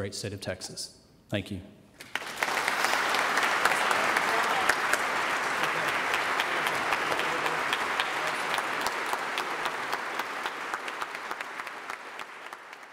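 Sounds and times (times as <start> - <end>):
audience applauding: 2.0 - 12.9.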